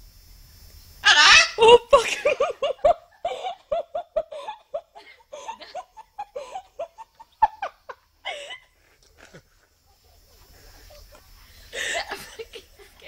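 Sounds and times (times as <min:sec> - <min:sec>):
short pitched laughing: 0:01.1 - 0:13.0.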